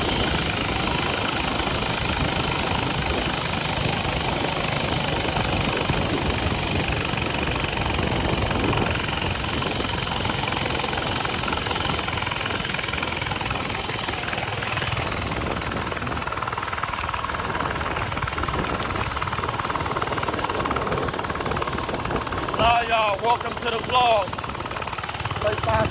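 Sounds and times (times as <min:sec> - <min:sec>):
wind noise on microphone: 0:00.0 - 0:24.0
small engine running: 0:00.0 - 0:25.9.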